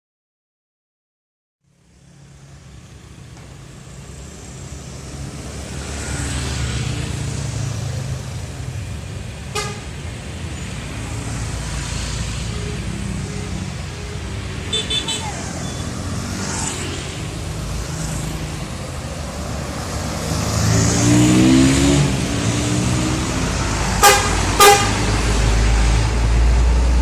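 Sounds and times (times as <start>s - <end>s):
hissing road traffic noise: 1.6s - 27.0s
bus diesel engines rumbling: 1.7s - 27.0s.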